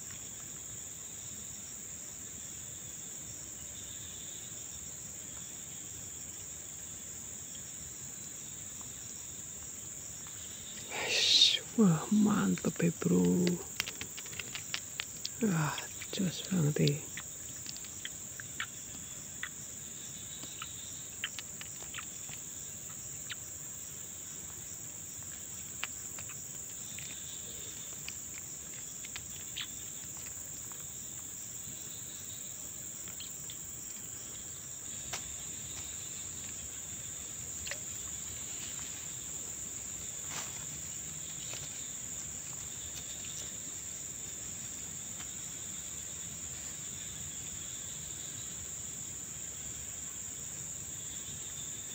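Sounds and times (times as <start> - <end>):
insects trilling: 0.0 - 51.9.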